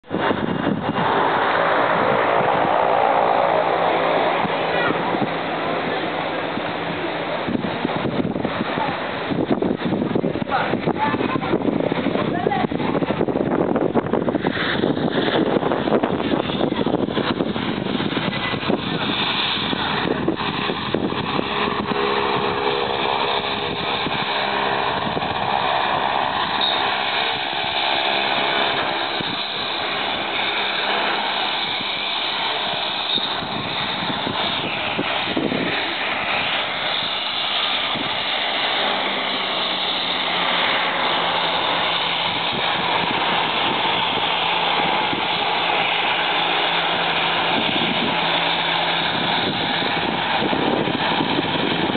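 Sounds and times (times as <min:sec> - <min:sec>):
turboprop plane engine drone: 0:00.0 - 0:51.9.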